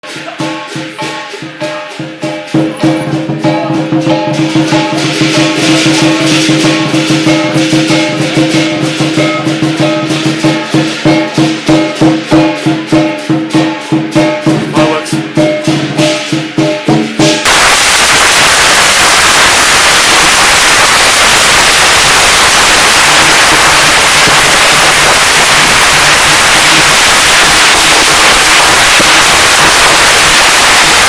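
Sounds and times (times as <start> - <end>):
drum cymbals and gong beat: 0.0 - 31.0.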